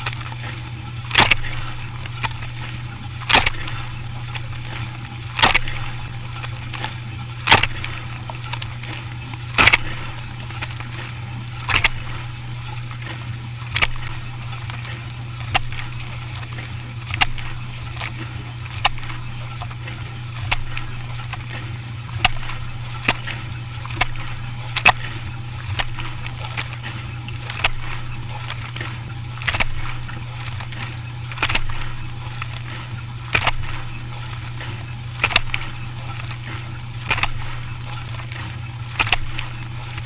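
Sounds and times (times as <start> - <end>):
sharp clicks: 0.0 - 13.1, 13.7 - 40.0
dishwasher humming: 0.0 - 40.0
water sloshing: 0.0 - 40.0.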